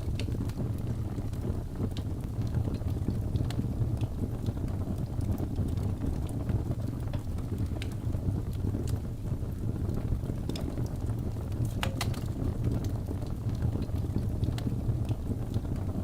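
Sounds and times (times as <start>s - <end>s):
fireplace flames rumbling: 0.0s - 16.0s
wood crackling and popping: 0.0s - 16.0s.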